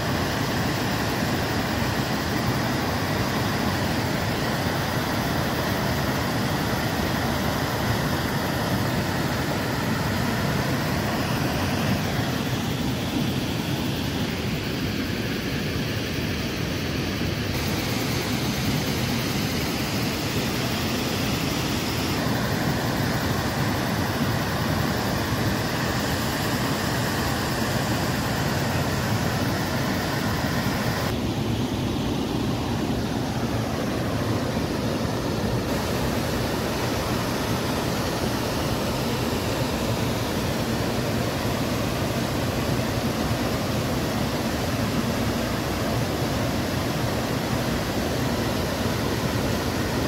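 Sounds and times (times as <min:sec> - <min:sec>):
waterfall rushing over boulders: 0:00.0 - 0:13.6, 0:14.3 - 0:50.0.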